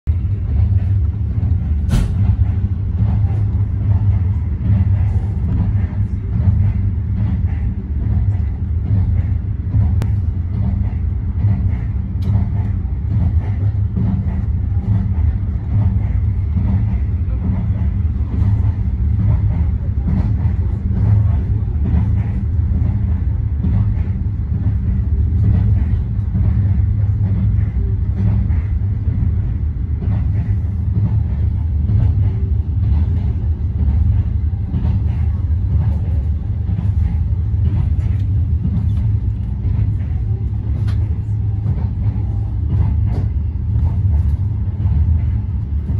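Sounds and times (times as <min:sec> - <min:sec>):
train rumbling inside carriage: 0:00.0 - 0:45.9.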